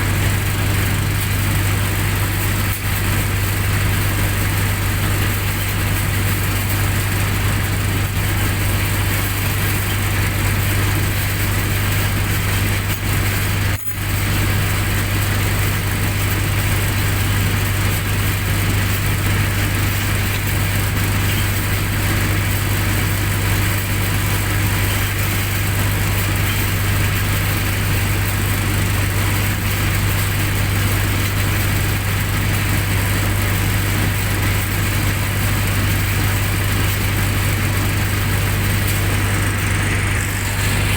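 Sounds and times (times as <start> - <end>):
generator engine humming: 0.0 - 40.9.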